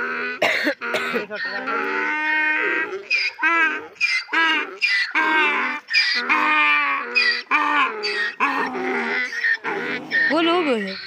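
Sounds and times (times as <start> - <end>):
donkey braying: 0.0 - 11.0.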